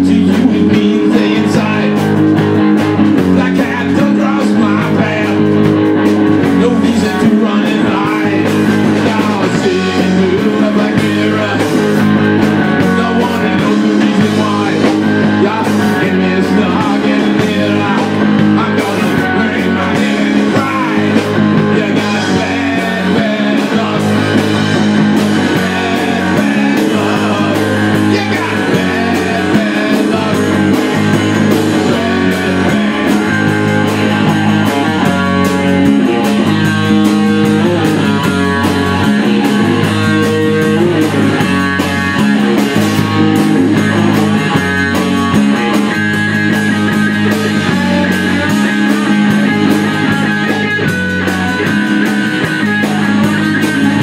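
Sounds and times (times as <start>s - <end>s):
drum kit: 0.0s - 54.0s
electric guitars: 0.0s - 54.0s.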